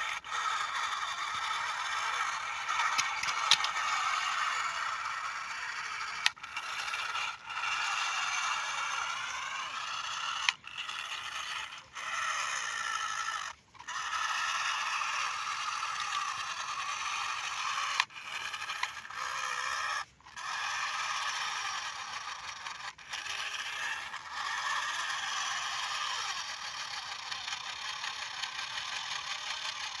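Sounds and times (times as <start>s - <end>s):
plastic toy vehicles scraping: 0.0s - 30.0s.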